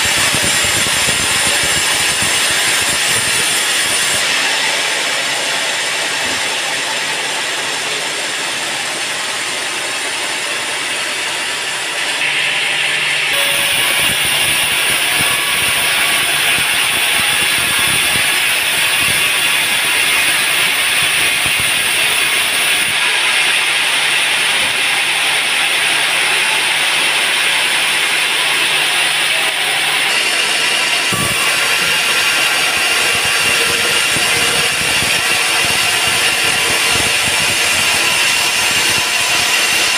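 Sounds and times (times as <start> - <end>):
band saw cutting log: 0.0 - 11.1, 11.9 - 39.9.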